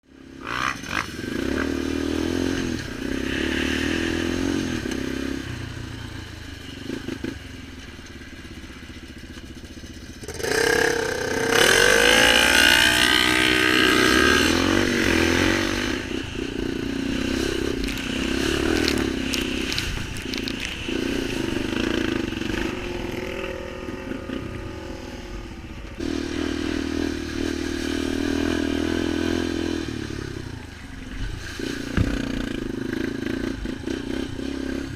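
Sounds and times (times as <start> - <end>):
off-road vehicle engine revving: 0.2 - 8.4, 9.7 - 34.9.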